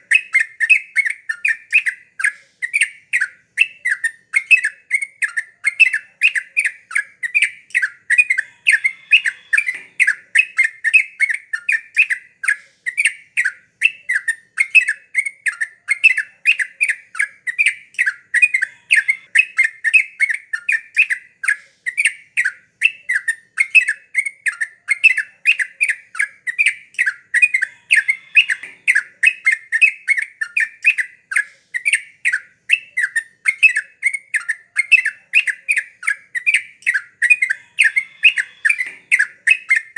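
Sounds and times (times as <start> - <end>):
bird singing bubbly chirps: 0.0 - 39.9.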